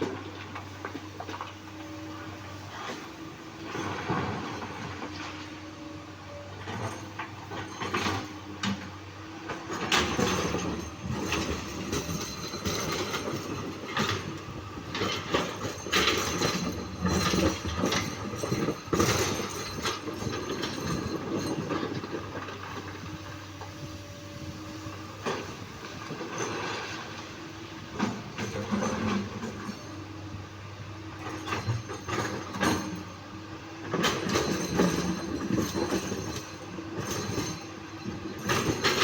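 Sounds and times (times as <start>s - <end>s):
excavator running: 0.0s - 39.0s.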